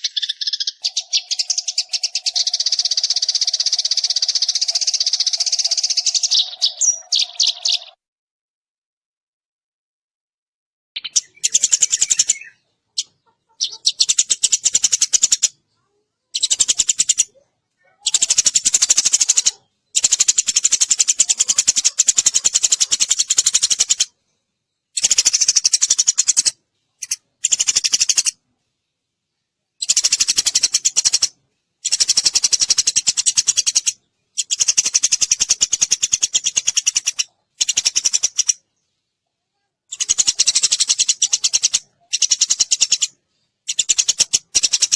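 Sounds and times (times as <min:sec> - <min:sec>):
sparrows chirping: 0:00.0 - 0:08.0, 0:11.0 - 0:44.9.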